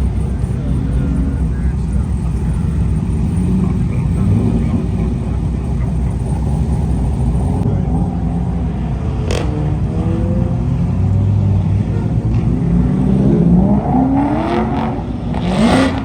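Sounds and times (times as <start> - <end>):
exhaust crack: 0.0 - 15.0
car engine accelerating hard: 0.0 - 16.0.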